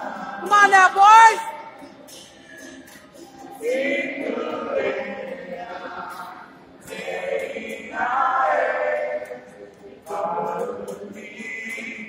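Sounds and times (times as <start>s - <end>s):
boys and young men singing: 0.0s - 12.0s.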